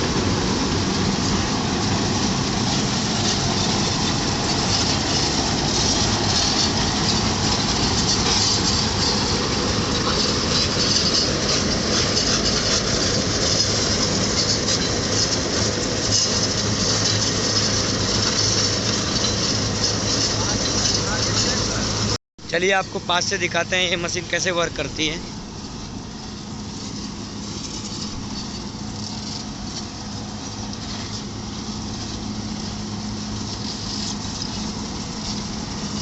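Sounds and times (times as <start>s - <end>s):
diesel engine hum: 0.0s - 36.0s
milling drum grinding road: 0.0s - 36.0s.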